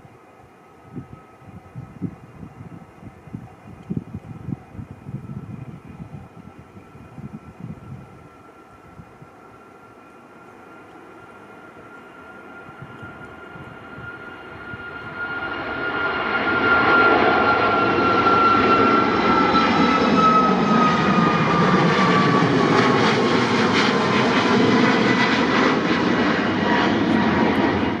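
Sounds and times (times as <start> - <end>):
high jet whine: 0.0 - 28.0
jet engine roar: 0.1 - 28.0.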